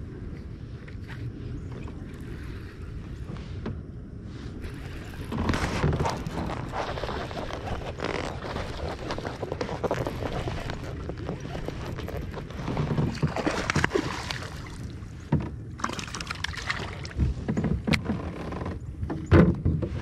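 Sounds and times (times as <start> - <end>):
water noise: 0.0 - 20.0
wind noise: 0.0 - 20.0
knocks and clicks against hull: 0.3 - 3.8, 4.6 - 20.0.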